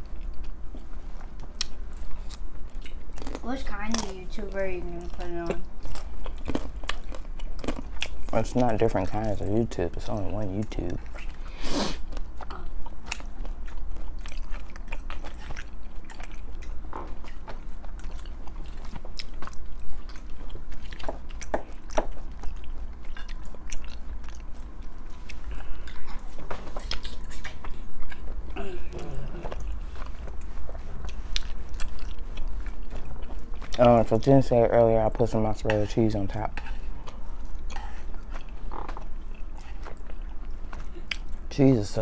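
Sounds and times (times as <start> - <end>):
close chewing and biting: 0.0 - 41.5
low steady hum: 0.0 - 42.0.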